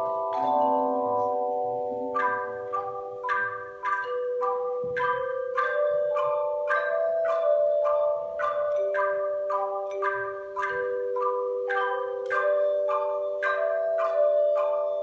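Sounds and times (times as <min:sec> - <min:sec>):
church bells ringing a melody: 0:00.0 - 0:15.0.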